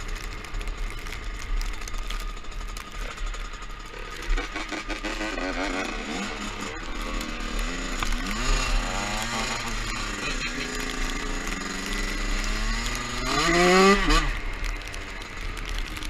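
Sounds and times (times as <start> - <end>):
dirt bike engine revving: 1.8 - 16.0.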